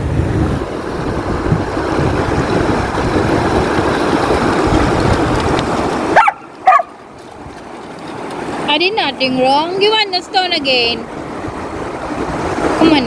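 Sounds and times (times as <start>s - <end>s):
wind buffeting microphone: 0.0s - 13.0s
shallow river over stones: 0.4s - 13.0s.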